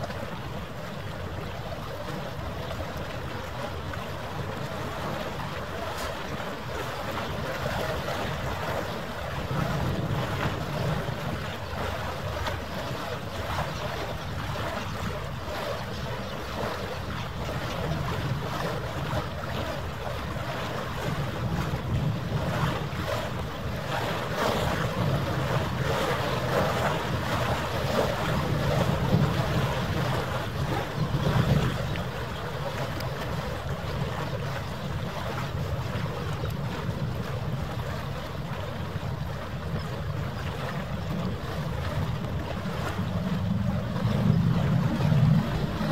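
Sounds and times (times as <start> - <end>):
water lapping: 0.0 - 45.9
wind buffeting microphone: 0.0 - 45.9.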